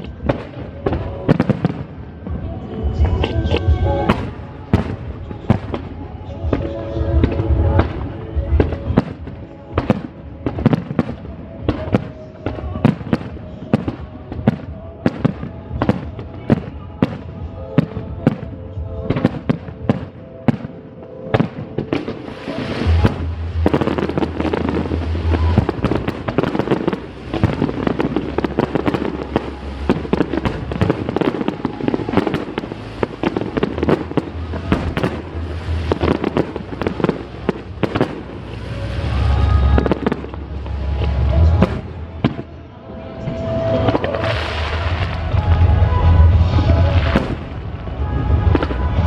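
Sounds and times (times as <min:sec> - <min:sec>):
fireworks bangs and booms: 0:00.0 - 0:42.6, 0:43.2 - 0:49.0
music: 0:00.0 - 0:49.0.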